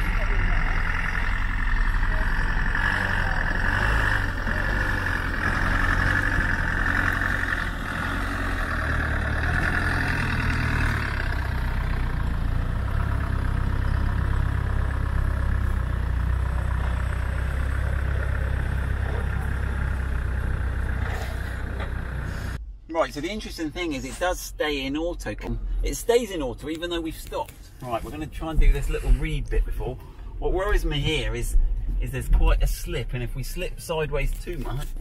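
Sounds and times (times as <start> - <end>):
off-road vehicle engine at low revs: 0.0 - 24.2, 24.8 - 35.0.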